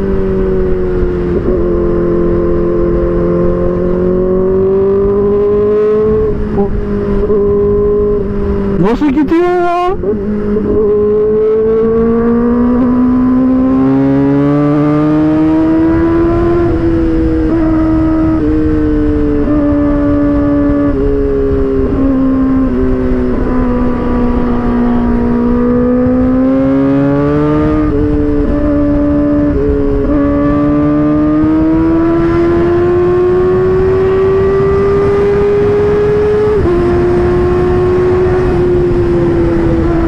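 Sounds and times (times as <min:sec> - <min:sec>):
motorcycle engine at high revs: 0:00.0 - 0:09.0, 0:09.7 - 0:40.0
wind rush: 0:00.0 - 0:40.0.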